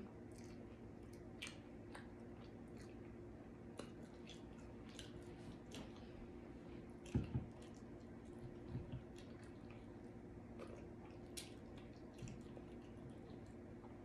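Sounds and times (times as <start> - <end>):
wet chewing and mouth smacking: 0.2 - 14.0.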